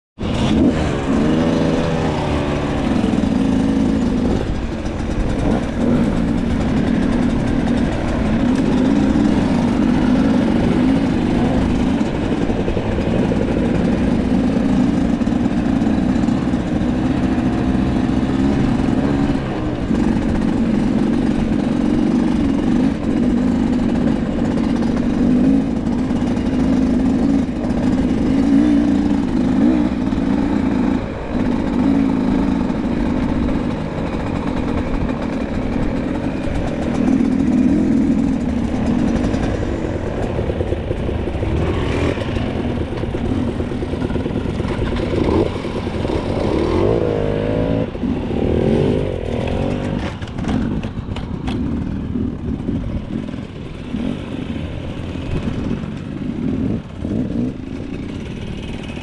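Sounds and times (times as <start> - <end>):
motorcycle engine revving: 0.2 - 59.0.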